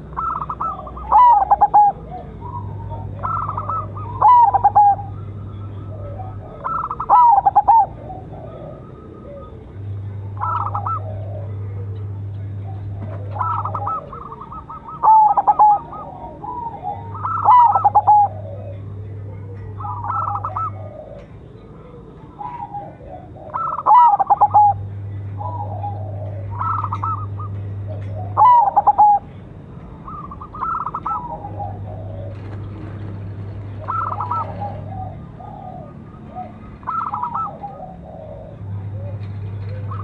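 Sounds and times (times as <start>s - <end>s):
dove cooing: 0.0s - 40.0s.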